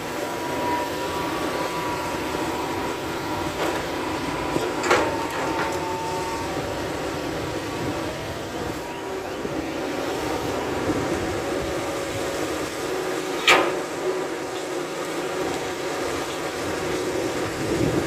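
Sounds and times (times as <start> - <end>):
excavator diesel engine: 0.0 - 18.0
hydraulic whine: 0.0 - 18.0.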